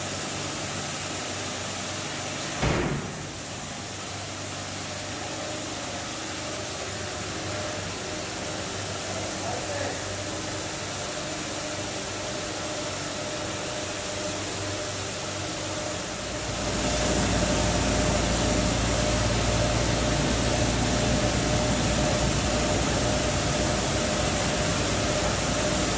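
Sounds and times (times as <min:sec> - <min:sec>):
carpet-washing machine humming: 0:00.0 - 0:25.9.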